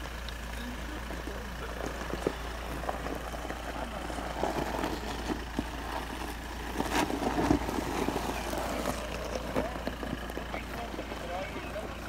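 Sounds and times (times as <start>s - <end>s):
diesel engine at low revs: 0.0s - 12.0s
stones crunching under tyres: 0.0s - 12.0s.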